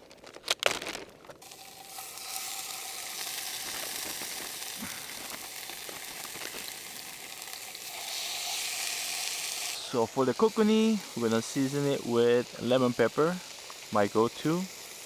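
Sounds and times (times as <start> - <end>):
fish sizzling in hot oil: 1.4 - 15.0.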